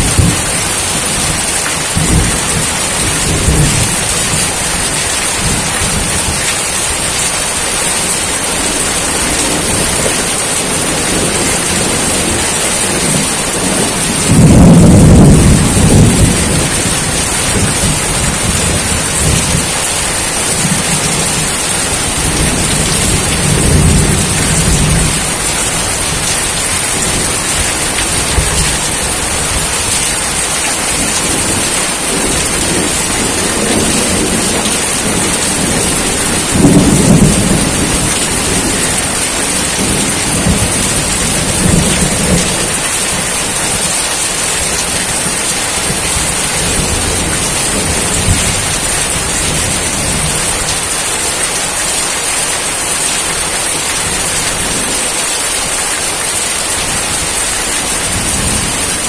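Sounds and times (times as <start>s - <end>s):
thunder rumbling: 0.0s - 51.4s, 52.8s - 59.0s
steady rain: 0.0s - 59.0s.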